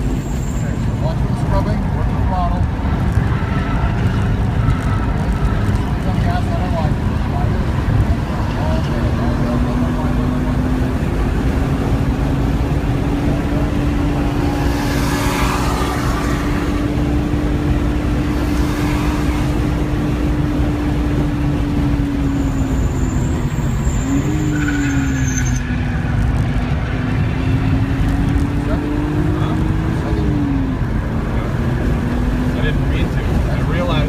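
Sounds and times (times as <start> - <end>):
road and wind noise: 0.0 - 34.0
car engine accelerating at high revs: 5.6 - 25.1, 25.7 - 34.0.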